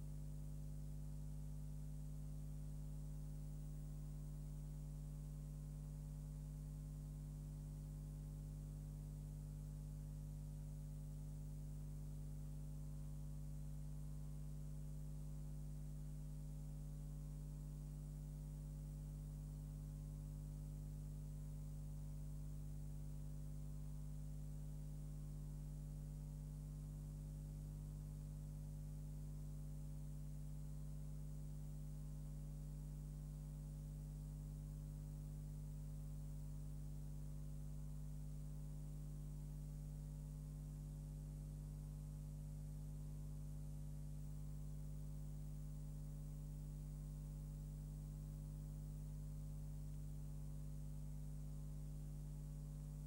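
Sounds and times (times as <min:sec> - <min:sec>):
electrical mains hum: 0:00.0 - 0:53.0.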